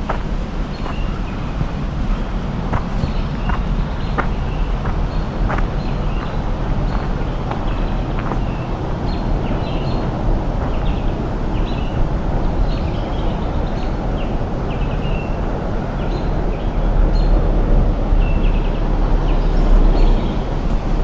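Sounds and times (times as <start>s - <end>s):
small birds chirping: 0.0s - 17.4s
low rumbling background noise: 0.0s - 21.0s.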